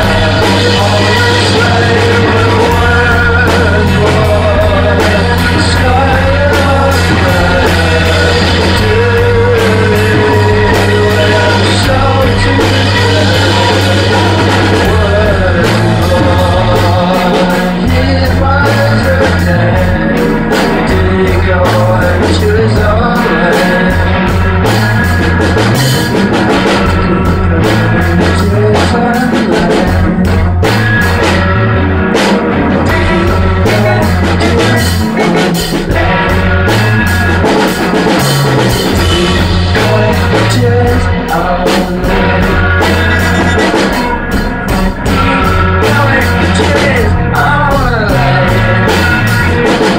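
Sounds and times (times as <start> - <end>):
bass line: 0.0 - 49.9
drums: 0.0 - 49.9
electric guitar: 0.0 - 49.9
person singing: 0.0 - 49.9.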